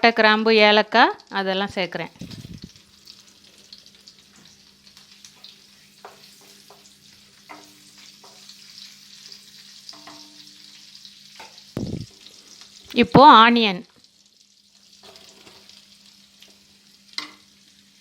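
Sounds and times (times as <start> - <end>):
spices sizzling in hot oil: 0.0 - 18.0.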